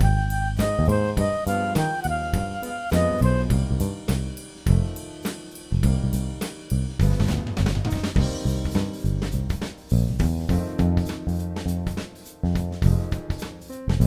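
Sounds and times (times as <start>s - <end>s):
background music with drum beat: 0.0s - 14.0s.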